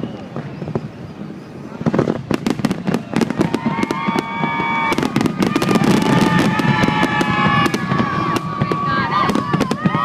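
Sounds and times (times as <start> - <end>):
fireworks popping and crackling: 0.0 - 10.0
fireworks whistling: 0.0 - 10.0.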